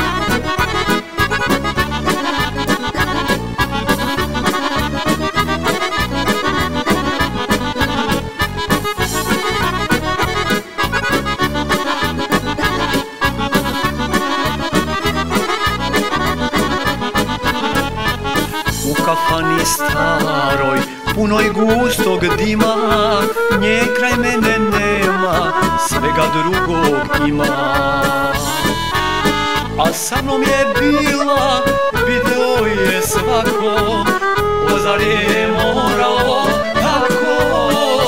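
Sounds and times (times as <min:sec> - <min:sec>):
accordion melody: 0:00.0 - 0:38.0
quick steady beat: 0:00.0 - 0:38.0.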